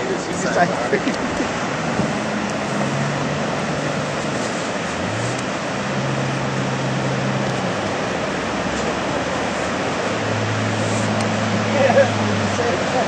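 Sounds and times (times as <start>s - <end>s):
boat engine running hard: 0.0s - 13.0s
breaking waves and spray: 0.0s - 13.0s.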